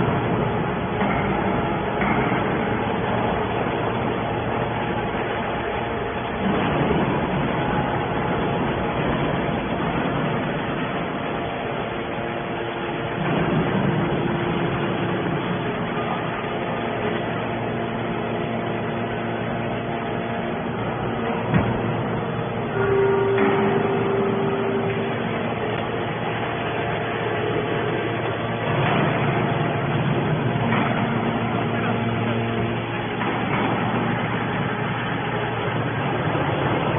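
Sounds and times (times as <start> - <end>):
baler motor and pump humming: 0.0 - 36.9.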